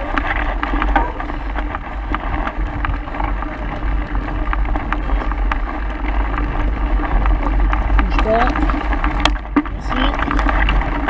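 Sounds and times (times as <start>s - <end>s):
bike clicks and rattles: 0.0s - 11.0s
wind rumble on microphone: 0.0s - 11.0s.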